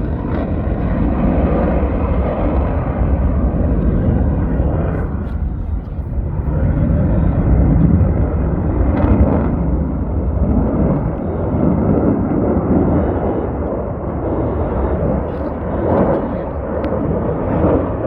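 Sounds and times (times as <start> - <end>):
jet engine rumble flying by: 0.0 - 18.0.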